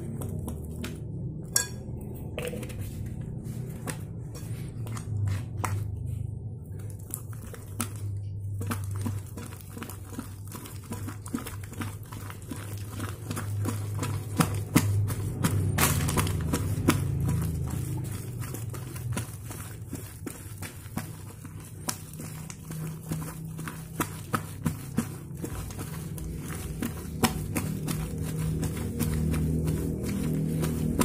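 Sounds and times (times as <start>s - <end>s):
slime squishing by hand: 0.0s - 31.0s
steady low hum: 0.0s - 31.0s.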